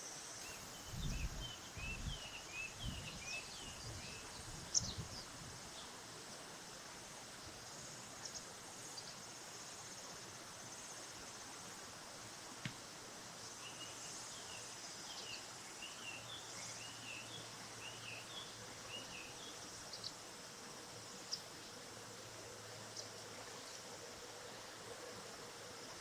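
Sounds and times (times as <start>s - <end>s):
high insect buzz: 0.0s - 26.0s
low background hiss: 0.0s - 26.0s.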